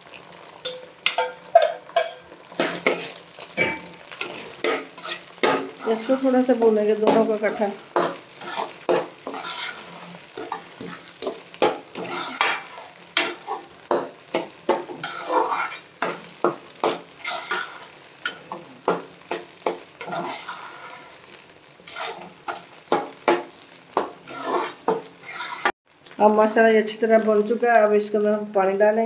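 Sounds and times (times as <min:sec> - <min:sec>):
metal spoon scraping metal pan: 0:00.6 - 0:21.2, 0:21.8 - 0:23.4, 0:24.0 - 0:25.8.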